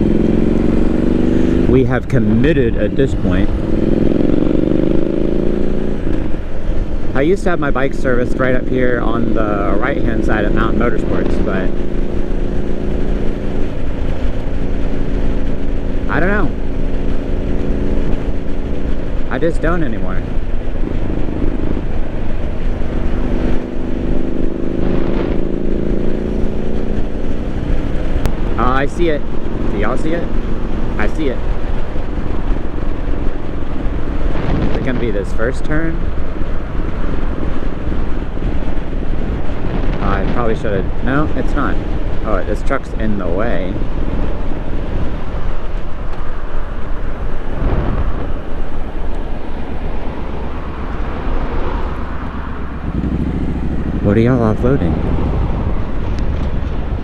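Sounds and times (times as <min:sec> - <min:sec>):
motorcycle engine cruising: 0:00.0 - 0:57.0
road and air noise: 0:00.0 - 0:57.0
wind rumble on microphone: 0:00.0 - 0:57.0.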